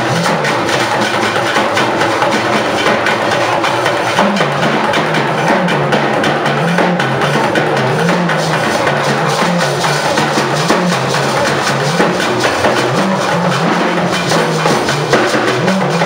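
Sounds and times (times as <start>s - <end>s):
bass line: 0.0s - 16.0s
drums and percussion music: 0.0s - 16.0s.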